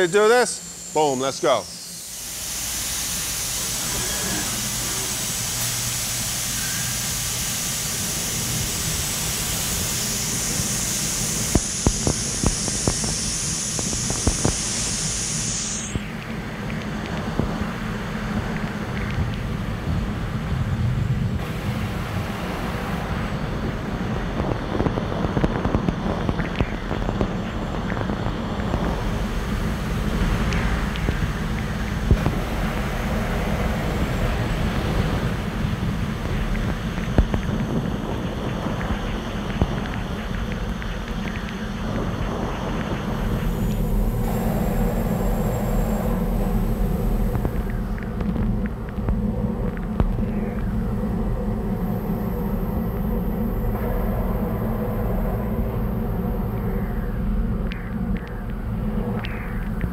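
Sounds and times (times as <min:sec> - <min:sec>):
coolant spray hiss: 0:00.0 - 0:20.5, 0:21.4 - 0:48.9
machine running noise: 0:00.0 - 0:59.9
strong high hiss: 0:00.0 - 0:59.9.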